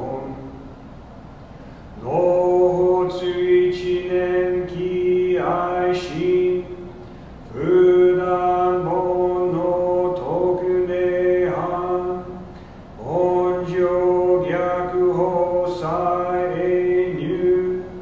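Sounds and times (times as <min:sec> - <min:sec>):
man chanting: 0:00.0 - 0:00.6, 0:02.0 - 0:06.9, 0:07.5 - 0:12.4, 0:13.0 - 0:18.0.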